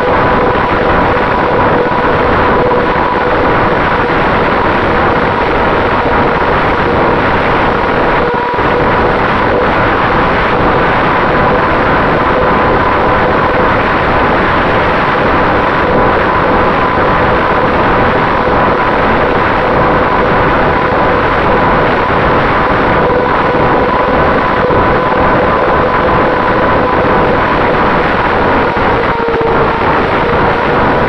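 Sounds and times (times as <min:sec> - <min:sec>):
electric motor and propeller whine: 0:00.0 - 0:31.0
wind rushing: 0:00.0 - 0:31.0.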